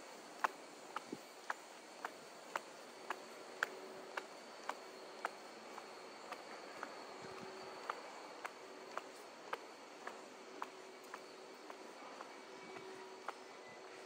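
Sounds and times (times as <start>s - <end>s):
faint high hum: 0.0s - 14.0s
footsteps walking: 0.3s - 14.0s.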